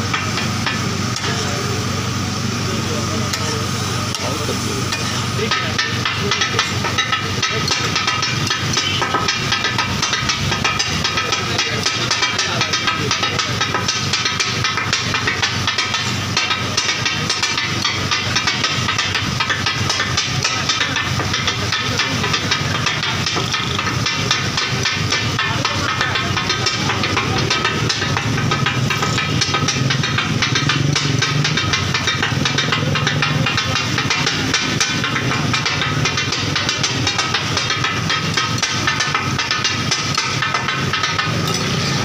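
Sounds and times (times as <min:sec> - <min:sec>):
metal spatulas clattering on griddle: 0:04.1 - 0:42.0.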